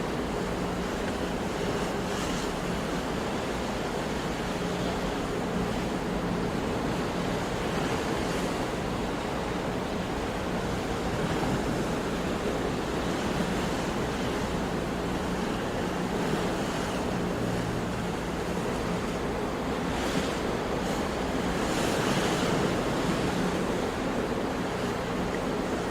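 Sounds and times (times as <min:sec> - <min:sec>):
sea waves washing on shore: 0:00.0 - 0:25.9.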